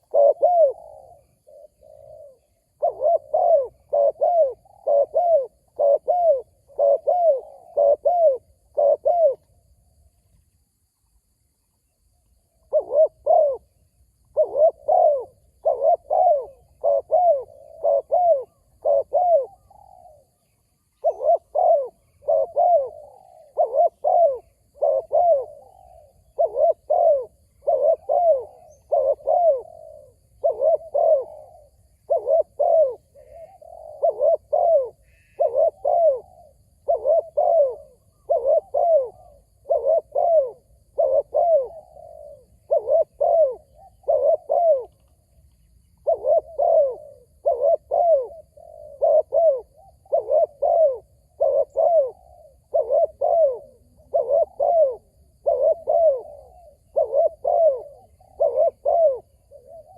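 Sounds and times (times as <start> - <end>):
dove cooing: 0.0 - 9.7, 12.6 - 59.9.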